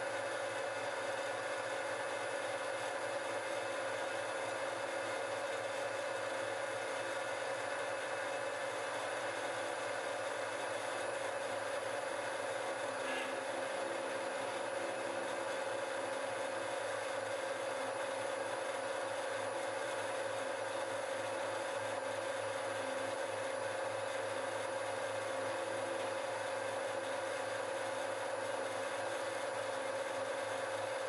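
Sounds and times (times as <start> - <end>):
milling machine spindle whine: 0.0 - 31.0.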